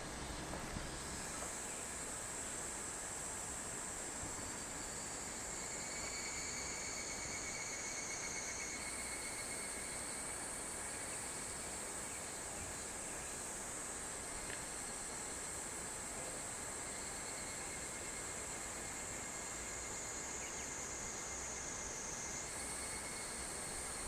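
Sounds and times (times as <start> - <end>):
cicadas and insects calling: 1.0 - 24.0.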